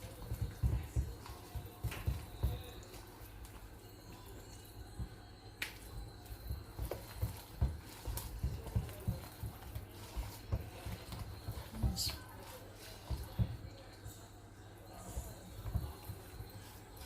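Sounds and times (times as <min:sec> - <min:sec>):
spoon stirring thick marinade: 0:00.0 - 0:17.0.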